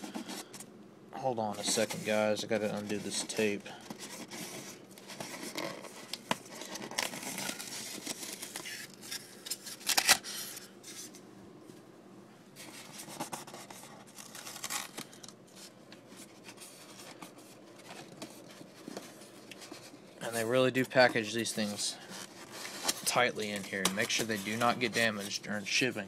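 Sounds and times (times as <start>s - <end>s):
packing tape tearing and crinkling: 1.6s - 11.1s, 12.6s - 25.5s.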